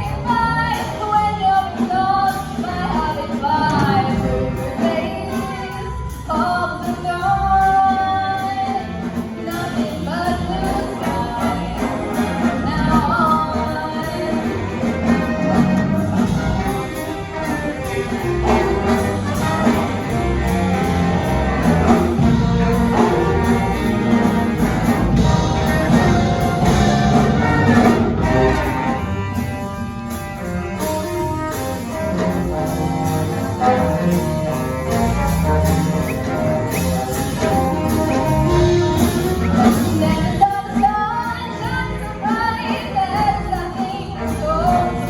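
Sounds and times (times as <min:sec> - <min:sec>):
big band playing swing jazz: 0:00.0 - 0:45.0
trumpets and trombones: 0:00.0 - 0:45.0.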